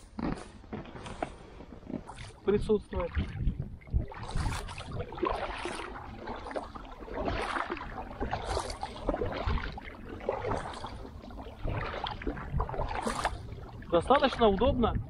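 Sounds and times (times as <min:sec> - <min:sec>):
wind rumble on microphone: 0:00.0 - 0:15.0
paddle splashing water: 0:00.2 - 0:15.0.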